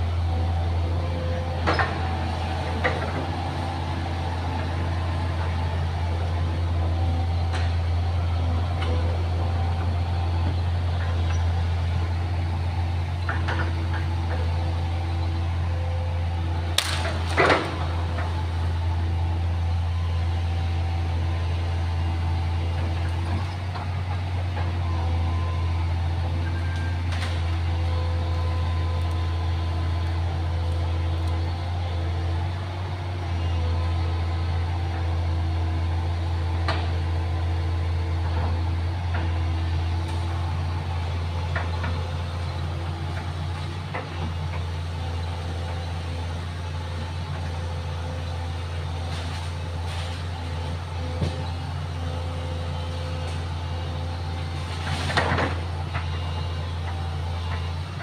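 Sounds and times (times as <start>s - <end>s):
excavator diesel engine humming: 0.0s - 58.0s.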